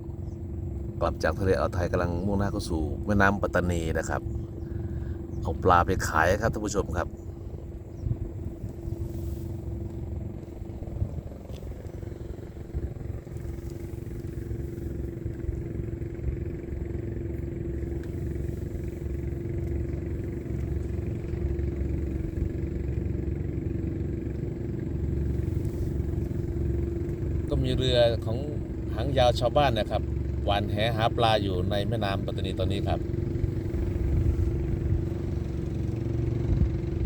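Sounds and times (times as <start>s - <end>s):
boat engine rumbling: 0.0s - 37.0s.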